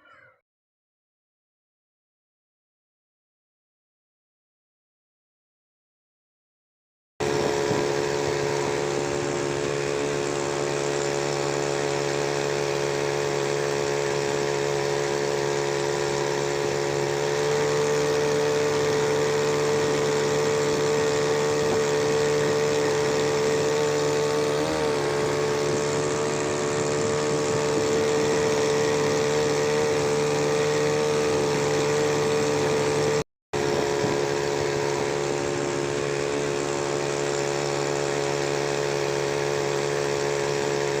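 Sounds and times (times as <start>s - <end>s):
outboard motor running: 7.2s - 41.0s.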